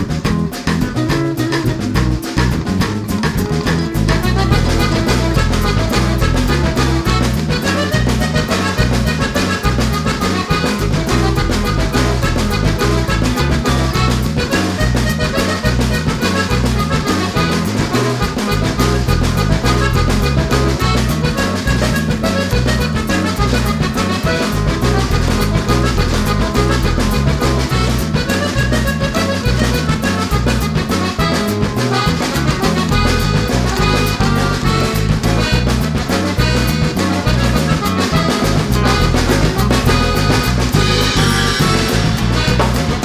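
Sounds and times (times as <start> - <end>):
accordion-like lead melody: 0.0 - 43.0
steady bass line: 0.0 - 43.0.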